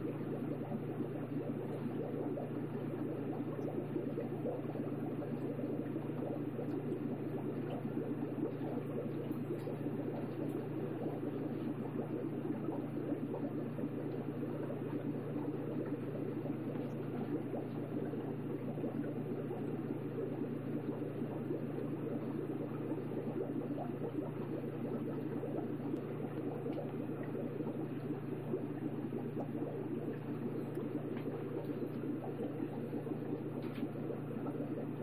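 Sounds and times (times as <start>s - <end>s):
aquarium water bubbling: 0.0s - 35.0s
low hum: 0.0s - 35.0s.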